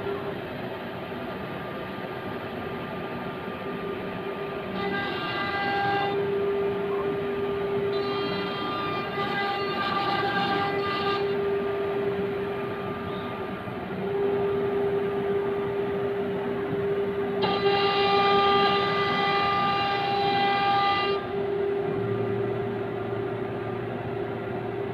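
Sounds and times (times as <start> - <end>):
router spindle whining: 4.6 - 24.9.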